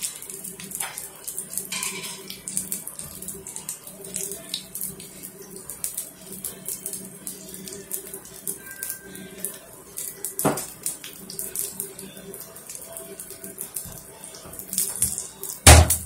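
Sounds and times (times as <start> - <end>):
batter sizzling in oil: 0.0 - 16.0.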